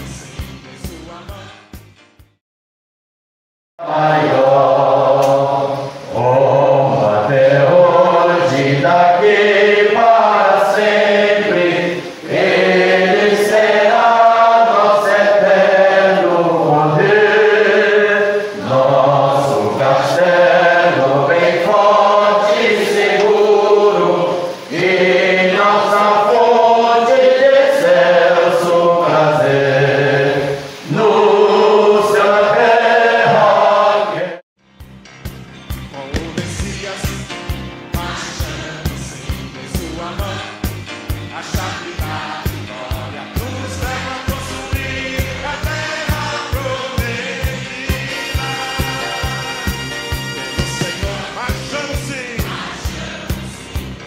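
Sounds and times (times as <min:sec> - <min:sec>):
group singing a hymn: 0:03.8 - 0:34.4, 0:37.9 - 0:54.0.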